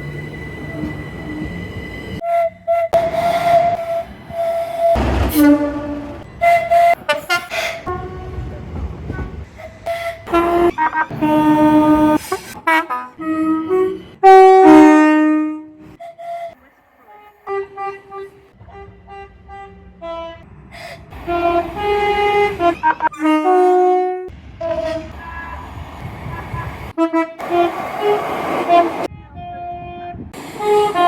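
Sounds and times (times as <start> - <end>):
train horn blasts: 2.2 - 16.5, 17.1 - 20.5, 21.2 - 25.5, 26.9 - 31.0.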